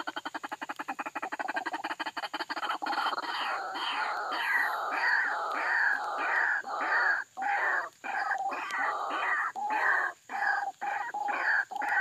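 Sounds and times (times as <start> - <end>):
waterhen harsh croaking calls: 0.0 - 12.0.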